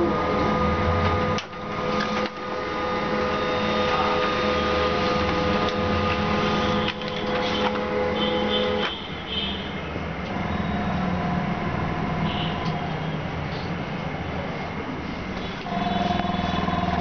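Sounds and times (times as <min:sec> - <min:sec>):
electric machine humming and whining: 0:00.0 - 0:09.4, 0:10.1 - 0:14.1, 0:15.2 - 0:17.0.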